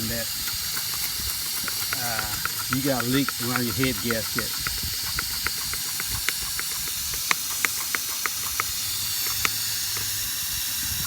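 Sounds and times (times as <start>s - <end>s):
light regular ticks: 0.0s - 10.8s
compressed air hissing: 0.0s - 11.0s.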